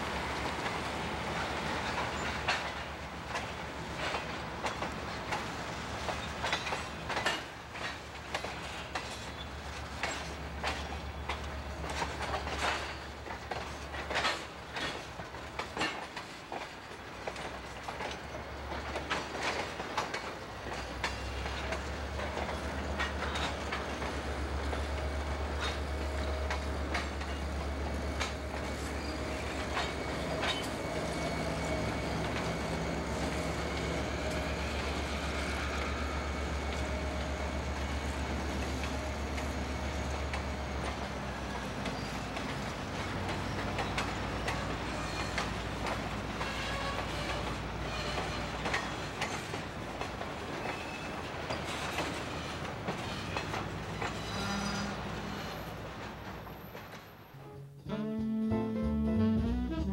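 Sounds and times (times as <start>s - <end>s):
diesel locomotive engine rumble: 0.0s - 57.6s
train wheels clicking over rail joints: 0.1s - 57.4s.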